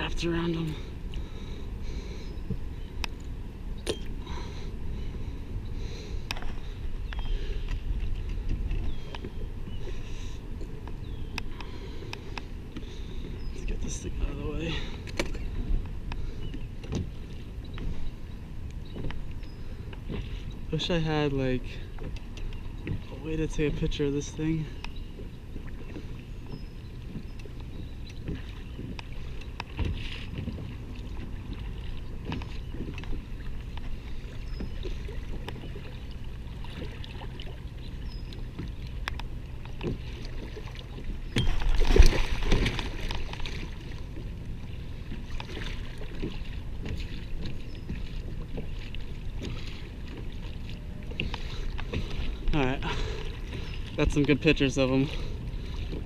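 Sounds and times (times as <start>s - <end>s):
small waves lapping against hull: 0.0s - 56.0s.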